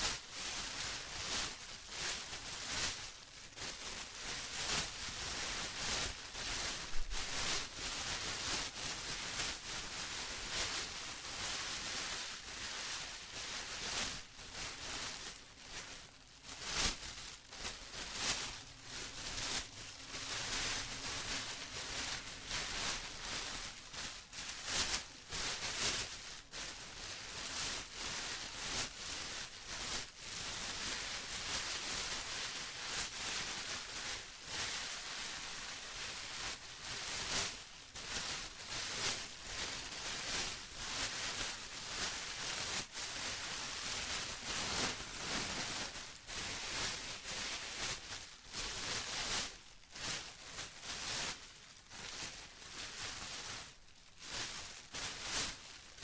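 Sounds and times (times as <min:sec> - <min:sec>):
plastic bag crinkling: 0:00.3 - 0:56.0.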